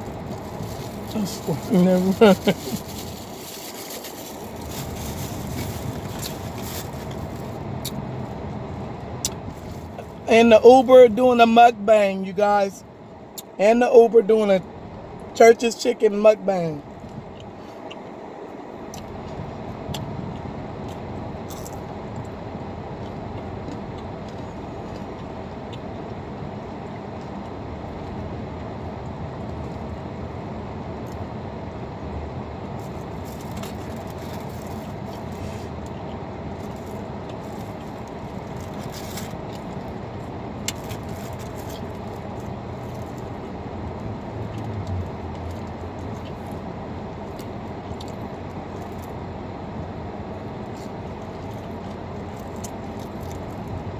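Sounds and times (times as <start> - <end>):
car cabin road and engine noise: 0.0 - 53.9.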